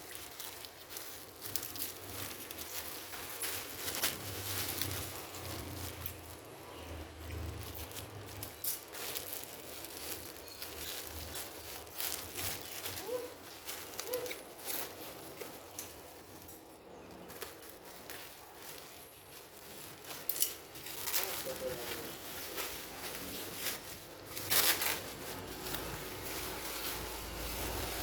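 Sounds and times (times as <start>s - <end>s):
plastic packaging rustling: 0.0s - 28.0s.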